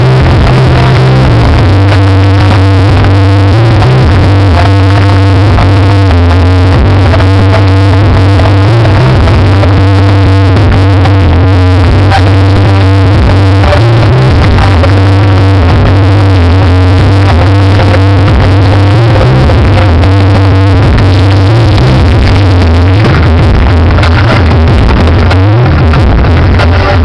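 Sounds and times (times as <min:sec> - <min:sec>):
loud electronic music: 0:00.0 - 0:27.0.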